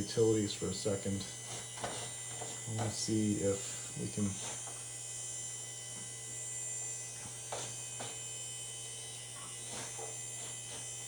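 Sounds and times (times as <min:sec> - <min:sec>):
computer electrical hum: 0:00.0 - 0:11.0
faint high whine: 0:00.0 - 0:11.0.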